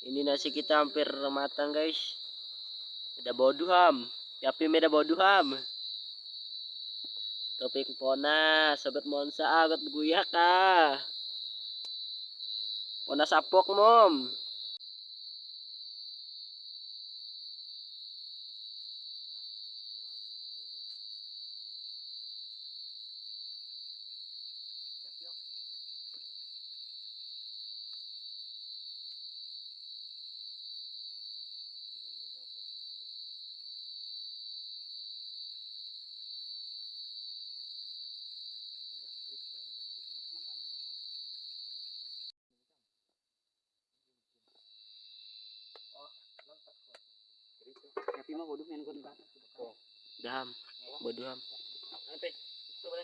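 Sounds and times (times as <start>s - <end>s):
night insects trilling: 0.0s - 42.3s, 44.4s - 53.0s.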